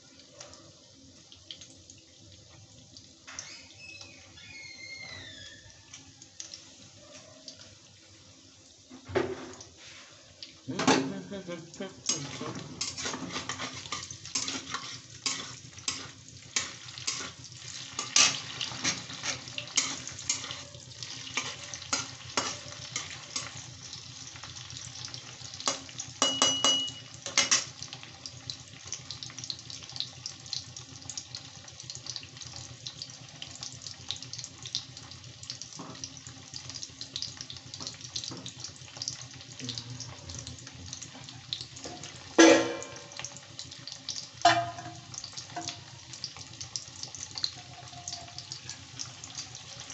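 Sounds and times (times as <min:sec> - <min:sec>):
cheese sizzling in hot oil: 0:00.0 - 0:49.9.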